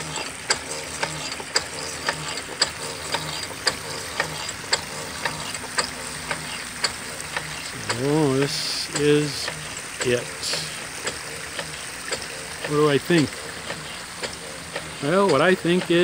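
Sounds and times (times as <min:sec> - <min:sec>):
low motor hum: 0:00.0 - 0:16.0
pump clicking: 0:00.0 - 0:16.0
water trickling: 0:00.0 - 0:16.0.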